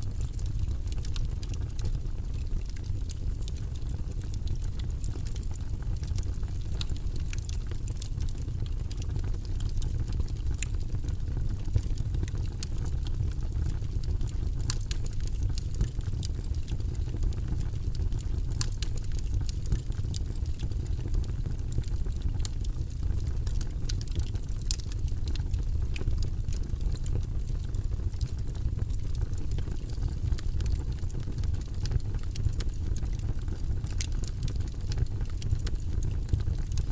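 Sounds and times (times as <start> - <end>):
fireplace fire crackling: 0.0 - 36.9.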